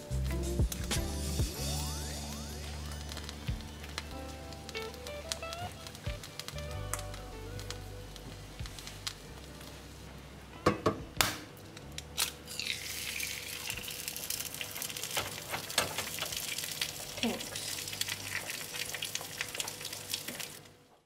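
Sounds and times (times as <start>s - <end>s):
egg sizzling in oil: 0.8s - 9.5s, 12.2s - 20.7s.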